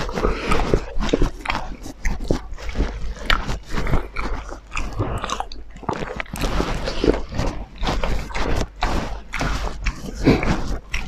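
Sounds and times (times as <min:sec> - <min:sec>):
wet chewing smacks and crunches: 0:00.0 - 0:11.0.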